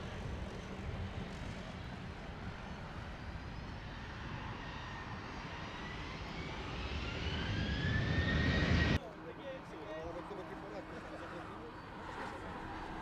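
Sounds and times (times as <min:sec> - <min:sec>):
jet engine whine: 0:00.0 - 0:13.0
jet engines rumbling: 0:00.0 - 0:13.0.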